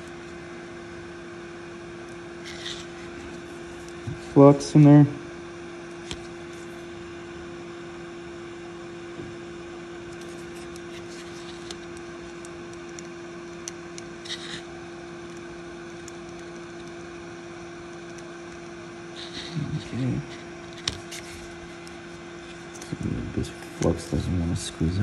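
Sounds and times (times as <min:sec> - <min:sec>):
equipment hum and hiss: 0:00.0 - 0:25.0.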